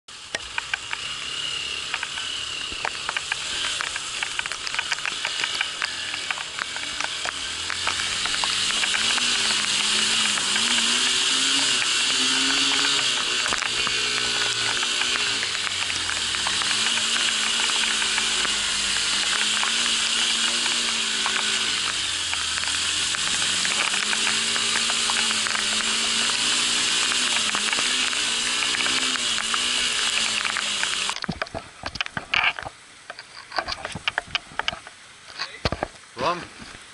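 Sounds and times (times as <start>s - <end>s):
motorcycle engine: 0.0s - 32.7s
heavy rain and water spray hissing: 0.1s - 36.9s
raindrops ticking on camera: 1.9s - 36.1s.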